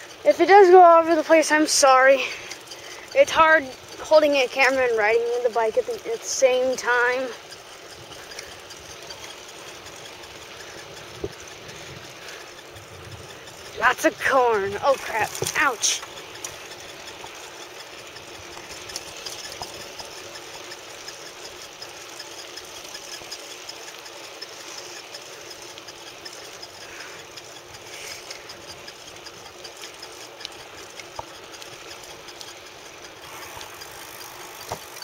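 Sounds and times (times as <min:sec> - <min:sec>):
bicycle rolling and drivetrain noise: 0:00.0 - 0:35.0.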